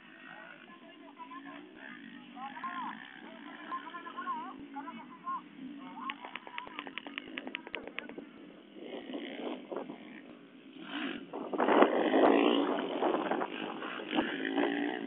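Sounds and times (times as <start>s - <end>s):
dirt bike engine passing: 0.0s - 15.0s.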